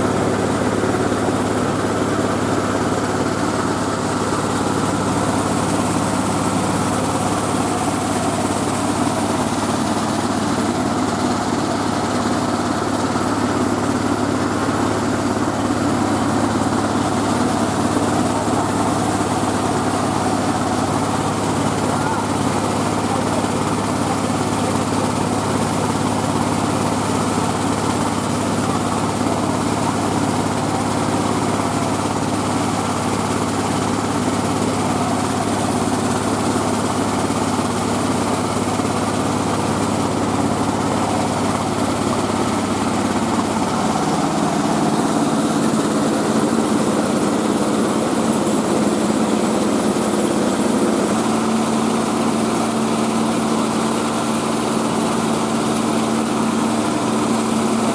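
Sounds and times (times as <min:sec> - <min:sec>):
rice-milling machine drone: 0:00.0 - 0:57.9.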